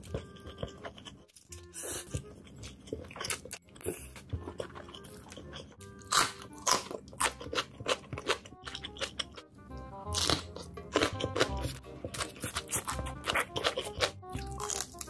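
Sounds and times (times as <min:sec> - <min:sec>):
crunching and chewing: 0:00.0 - 0:09.5, 0:10.1 - 0:15.0
background music: 0:00.0 - 0:15.0.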